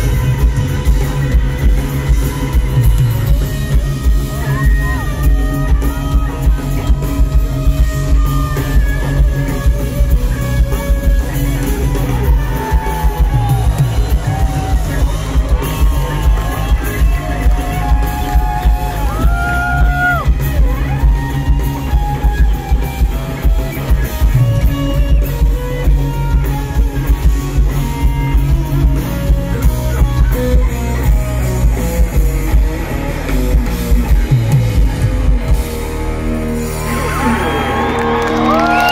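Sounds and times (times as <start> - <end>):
bass guitar: 0.0 - 38.9
drum kit playing: 0.0 - 38.9
electric guitars: 0.0 - 38.9.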